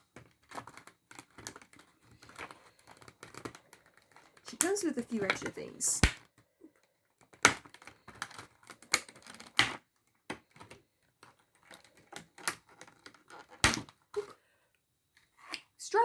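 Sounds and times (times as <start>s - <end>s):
plastic pieces clicking: 0.1s - 6.3s, 7.2s - 14.0s.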